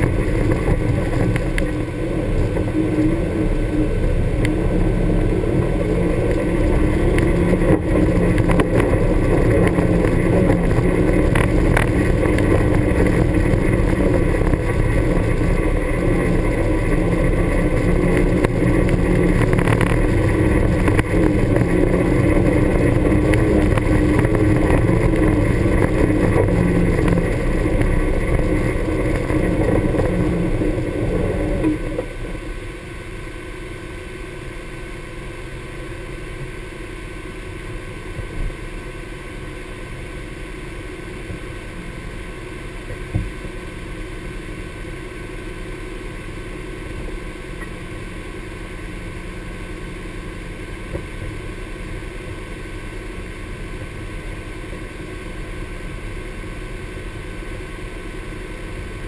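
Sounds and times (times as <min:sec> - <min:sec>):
vehicle engine running and idling: 0:00.0 - 0:59.0.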